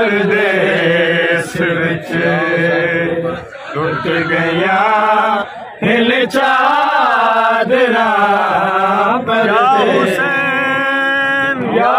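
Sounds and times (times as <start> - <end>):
man chanting a lament: 0.0 - 11.9.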